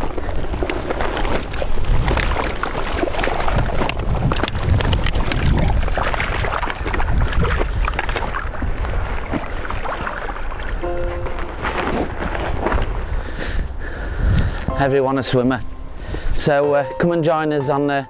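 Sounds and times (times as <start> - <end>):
water splashing and sloshing: 0.0 - 16.3.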